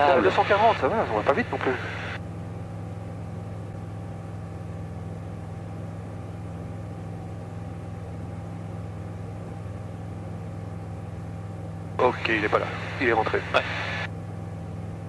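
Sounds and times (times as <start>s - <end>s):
aircraft engine and propeller hum: 0.0s - 15.0s.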